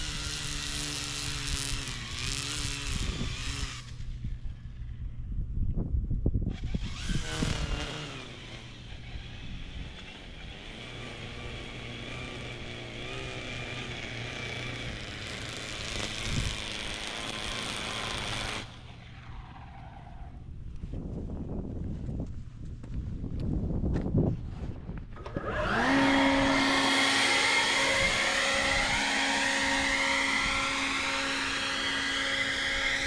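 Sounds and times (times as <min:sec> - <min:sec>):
electric whine over rushing air: 0:00.0 - 0:05.6, 0:06.4 - 0:20.6, 0:25.1 - 0:33.0
steady low hum: 0:00.0 - 0:33.0.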